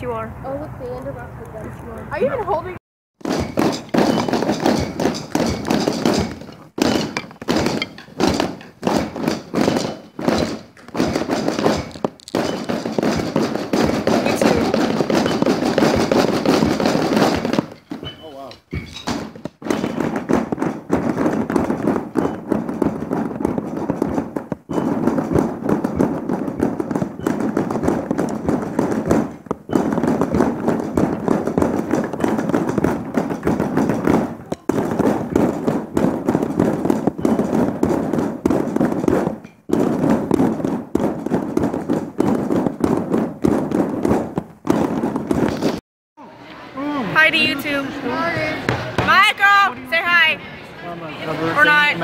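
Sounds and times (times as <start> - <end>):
rapid drum hits: 3.2 - 45.8.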